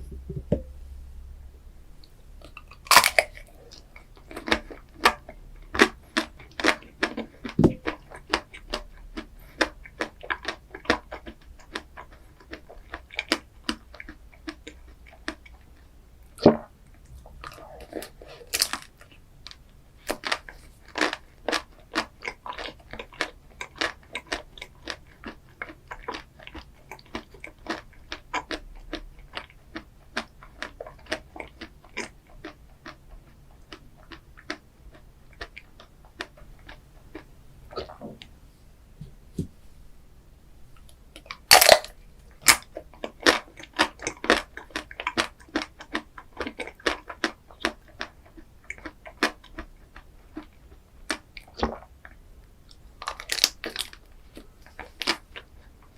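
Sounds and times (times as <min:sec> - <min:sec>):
person chewing crunchy ice cream: 0:02.4 - 0:38.1, 0:40.8 - 0:55.9.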